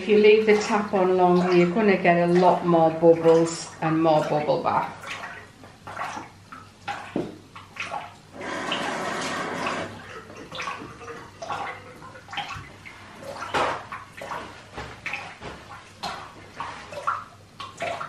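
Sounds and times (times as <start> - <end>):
bathtub water draining: 0.0 - 18.0.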